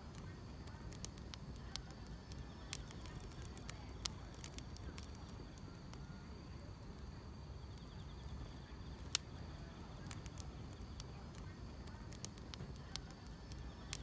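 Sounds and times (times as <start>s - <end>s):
insects trilling: 0.0s - 14.0s
wood fire crackling: 0.0s - 14.0s.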